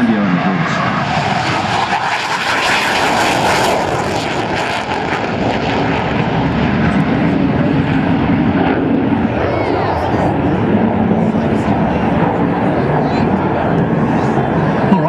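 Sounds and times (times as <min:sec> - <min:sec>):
fighter jet engines running: 0:00.0 - 0:15.0.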